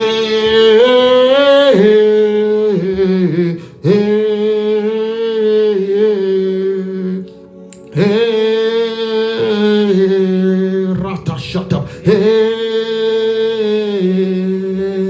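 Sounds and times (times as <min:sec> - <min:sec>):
person singing wordless notes: 0:00.0 - 0:15.0.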